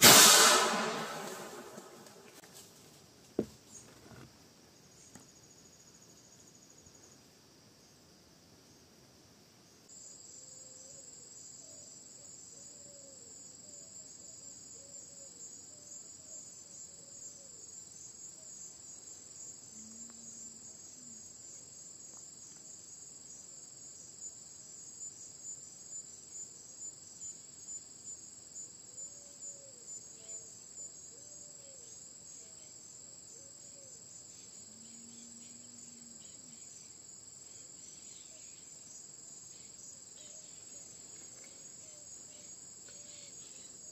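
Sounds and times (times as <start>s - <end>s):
insect chorus: 0.0s - 43.9s.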